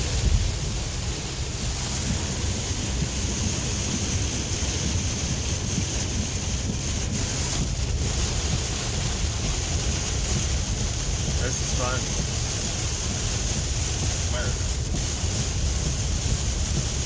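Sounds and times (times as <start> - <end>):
vehicle road and wind noise: 0.0 - 17.0.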